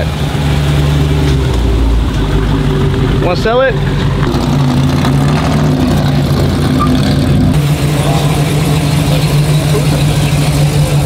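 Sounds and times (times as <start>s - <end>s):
car engine rumbling: 0.0s - 11.0s
muscle car engine idling: 0.0s - 11.0s.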